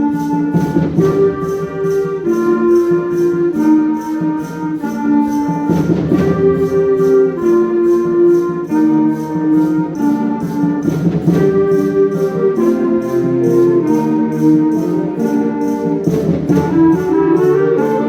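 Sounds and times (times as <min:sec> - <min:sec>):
brass and woodwind chords: 0:00.0 - 0:18.0
cymbal crashes: 0:00.0 - 0:18.0
shaken percussion beat: 0:00.0 - 0:18.0.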